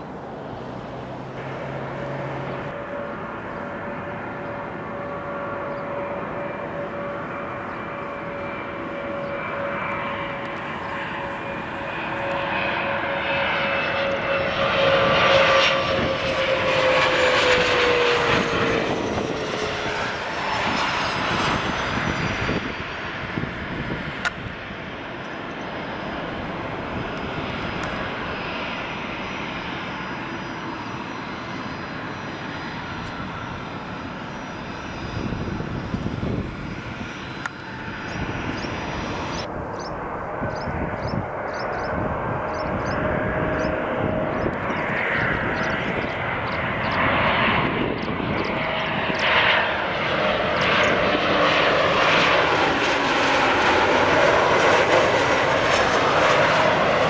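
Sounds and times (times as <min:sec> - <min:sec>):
jet engine whine: 0:00.0 - 0:57.0
jet rumble: 0:00.0 - 0:57.0.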